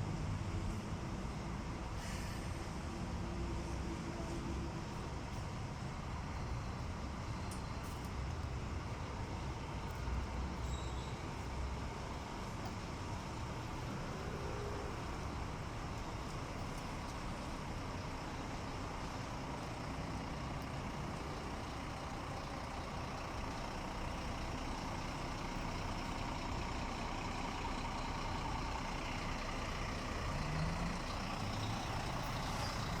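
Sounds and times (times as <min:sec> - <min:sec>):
bus diesel engine rumble: 0:00.0 - 0:33.0.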